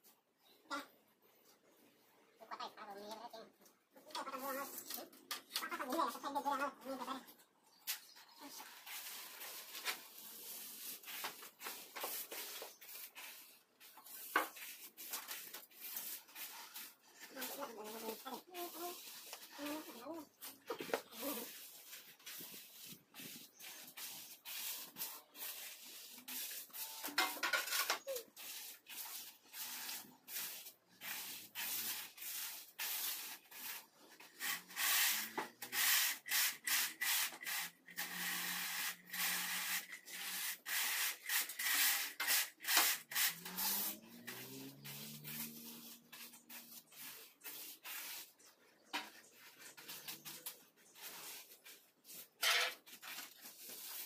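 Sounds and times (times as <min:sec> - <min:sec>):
trowel scraping wet screed: 0:07.8 - 0:54.0.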